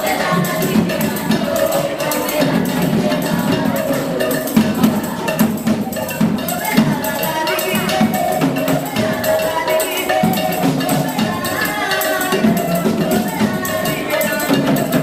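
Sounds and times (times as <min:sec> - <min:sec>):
frame drums beaten: 0:00.0 - 0:15.0
jingling and knocking percussion: 0:00.0 - 0:15.0.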